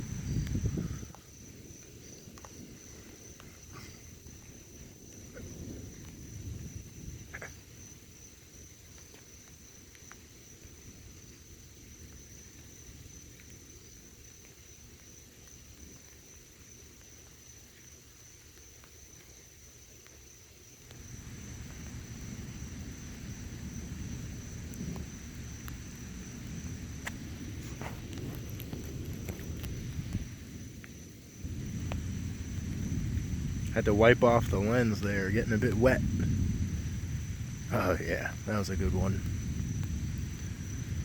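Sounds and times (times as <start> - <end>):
night insects chirring: 0.0 - 41.0.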